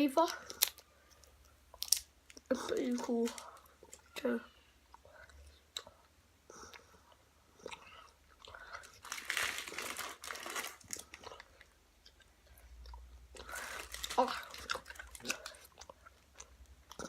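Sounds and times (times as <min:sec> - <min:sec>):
chewing and crunching candy: 0:00.1 - 0:17.0.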